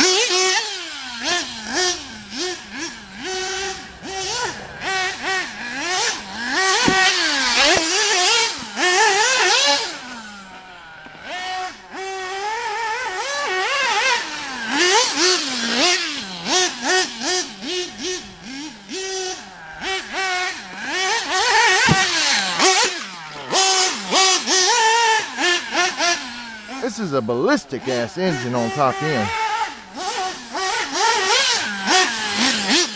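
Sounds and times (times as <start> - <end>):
model engine revving: 0.0 - 32.9.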